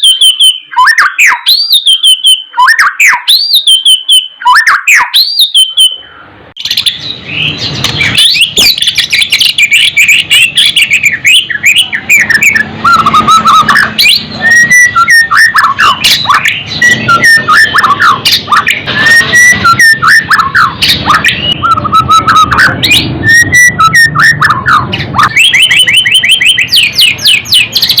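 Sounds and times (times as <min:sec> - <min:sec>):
songbird singing whistles: 0:00.0 - 0:28.0.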